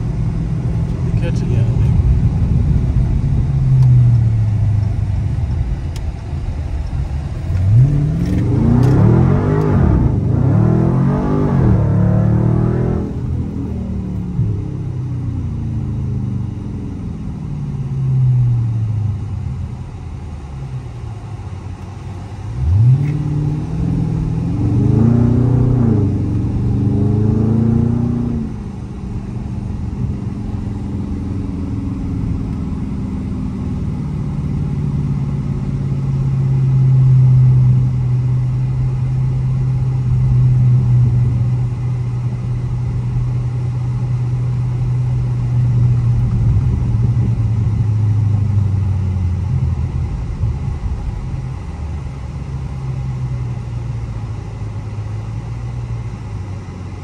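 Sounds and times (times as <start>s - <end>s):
car engine revving from inside: 0.0s - 57.0s.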